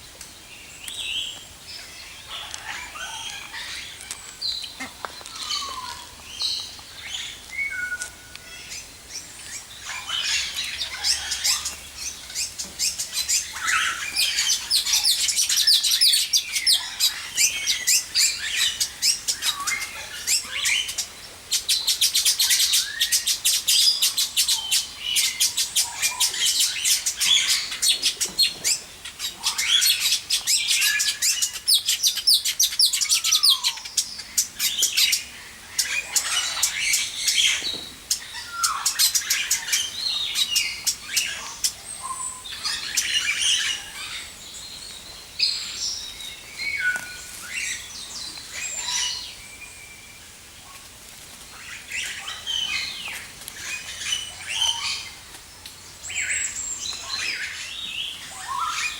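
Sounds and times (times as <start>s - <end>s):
birds chirping and twittering: 0.0s - 58.9s.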